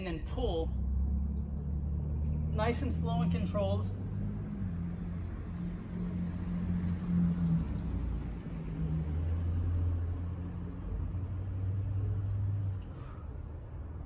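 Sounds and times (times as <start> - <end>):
low engine-like rumble: 0.0 - 14.0.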